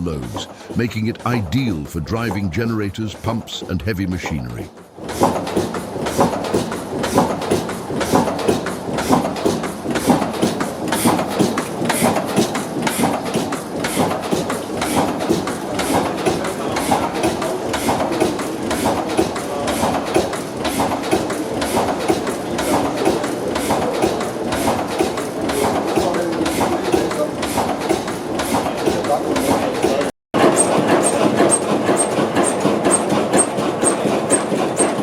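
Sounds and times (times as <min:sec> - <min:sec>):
diesel engine clattering: 0:00.0 - 0:35.0.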